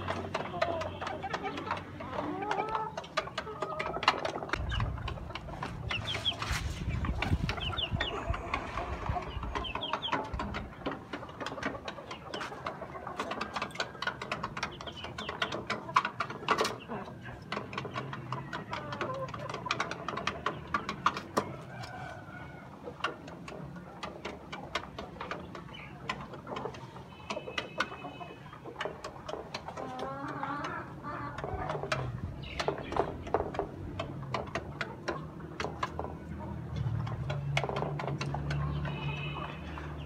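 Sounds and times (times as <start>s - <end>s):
hens clucking softly: 0.0s - 40.0s.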